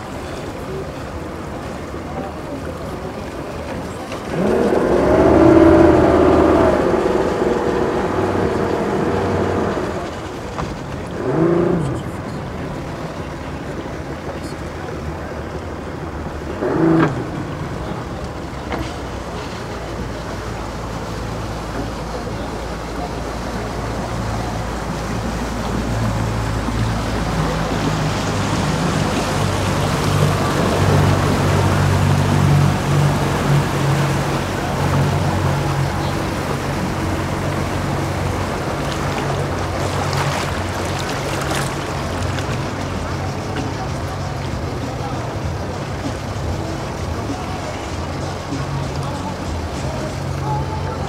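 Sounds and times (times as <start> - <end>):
boat motor humming: 0.0 - 51.0
water noise: 0.0 - 51.0.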